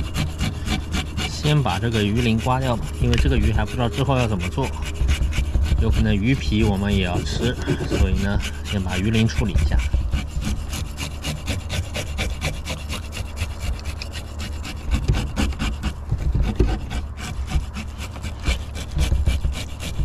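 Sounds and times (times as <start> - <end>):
fish scales being scraped: 0.0 - 20.0.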